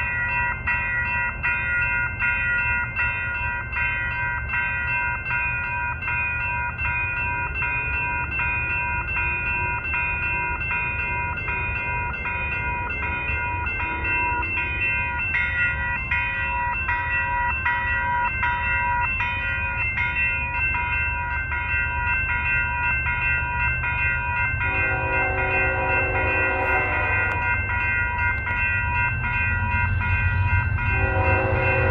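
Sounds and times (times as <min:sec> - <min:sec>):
crossing warning bell ringing: 0:00.0 - 0:31.9.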